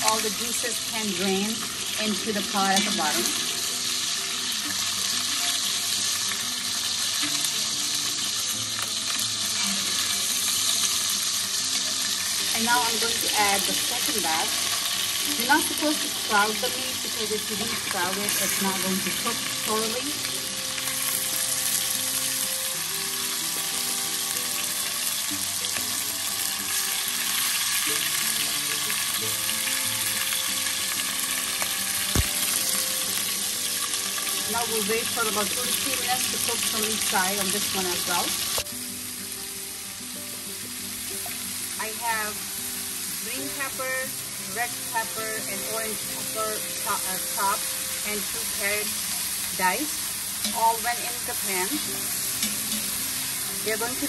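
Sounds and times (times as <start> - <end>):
oil sizzling in a pan: 0.0 - 54.0.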